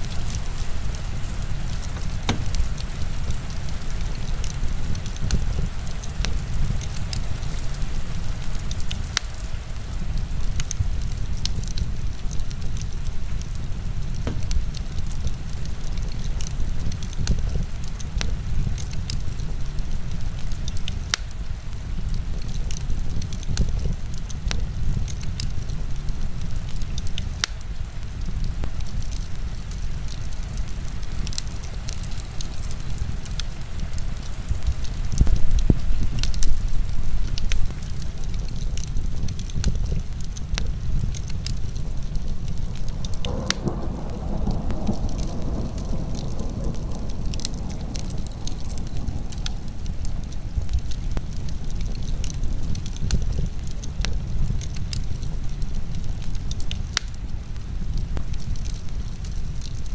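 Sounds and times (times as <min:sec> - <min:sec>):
heavy rain: 0:00.0 - 0:59.9
wood fire crackling: 0:00.0 - 0:59.9.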